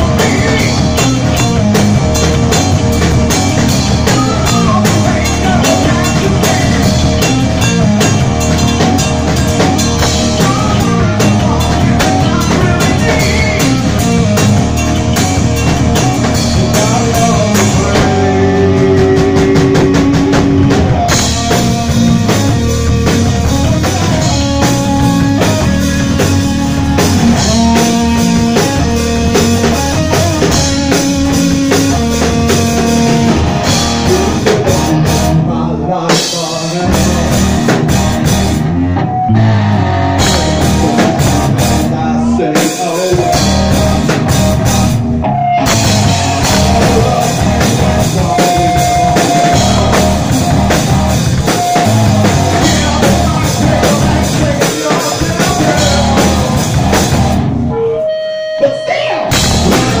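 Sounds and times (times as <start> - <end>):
drum kit: 0.0 - 58.0, 58.9 - 60.0
bass guitar: 0.0 - 60.0
distorted electric guitar: 0.0 - 60.0.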